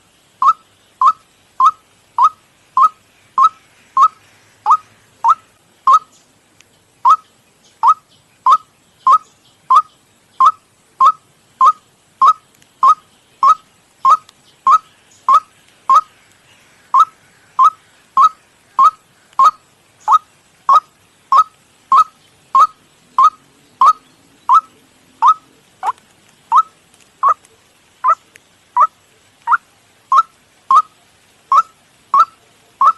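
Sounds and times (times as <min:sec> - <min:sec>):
waterhen calls: 0:00.0 - 0:06.3, 0:07.0 - 0:32.9.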